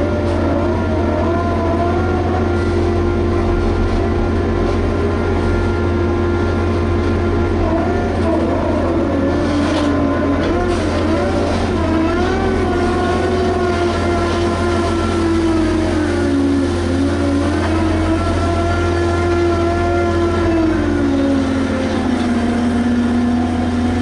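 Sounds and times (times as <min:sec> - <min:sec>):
diesel engine rumbling under load: 0:00.0 - 0:24.0.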